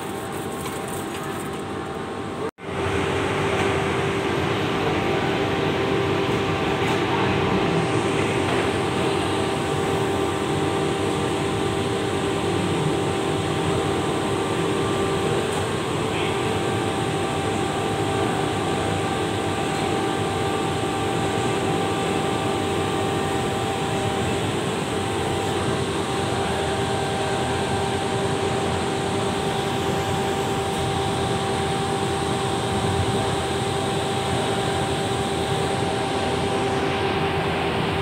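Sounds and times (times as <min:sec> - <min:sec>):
machine hum: 0:00.0 - 0:38.0.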